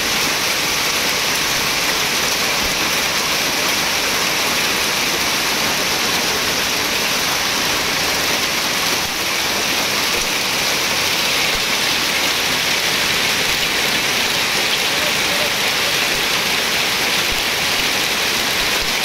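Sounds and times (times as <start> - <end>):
heavy rain and hail: 0.0 - 19.0.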